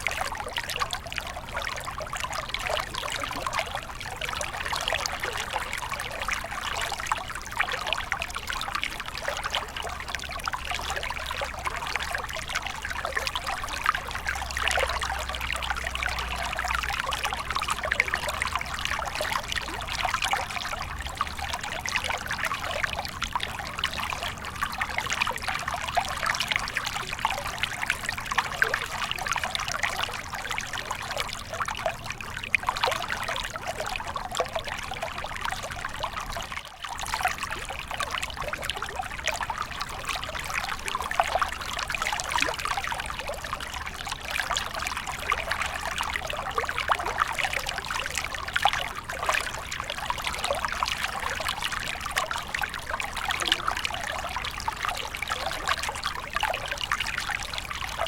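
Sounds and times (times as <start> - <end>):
stream bubbling trickle: 0.0 - 58.0.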